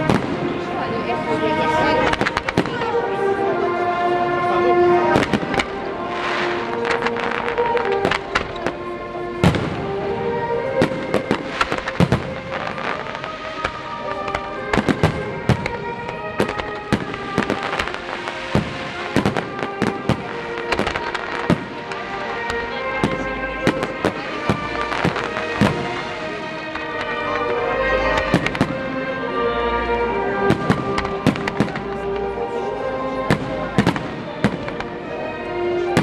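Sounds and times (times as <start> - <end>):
fireworks bangs and crackles: 0.0 - 36.0
music with held notes: 0.0 - 36.0.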